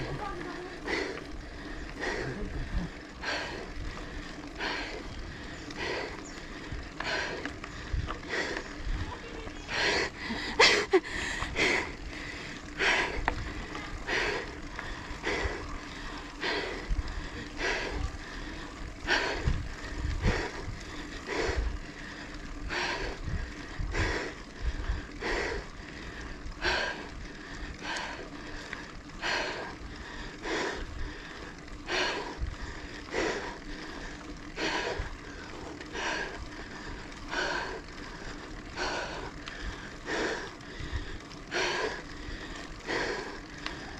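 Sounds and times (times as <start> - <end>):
bike hum: 0.0 - 43.9
heavy rhythmic panting: 0.0 - 43.9.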